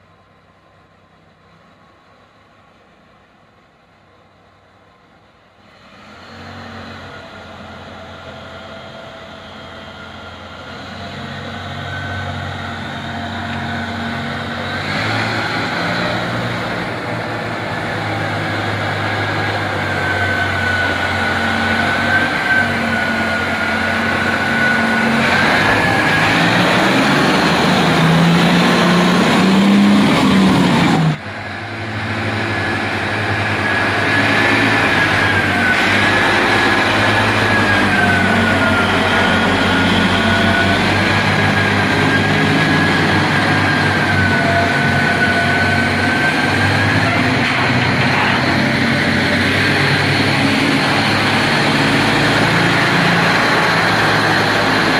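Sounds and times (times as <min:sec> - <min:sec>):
haul truck diesel engine running: 0:07.0 - 0:54.9.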